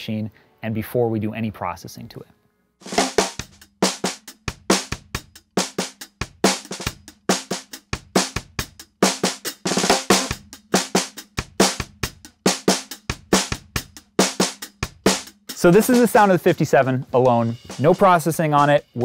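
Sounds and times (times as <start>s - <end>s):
dampened snare drum: 2.8s - 19.0s
hi-hats playing a beat: 2.8s - 19.0s.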